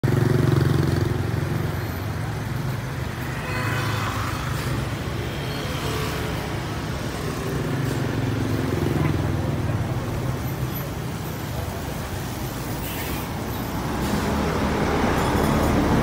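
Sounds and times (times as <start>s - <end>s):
vehicles passing on wet road: 0.0s - 16.0s.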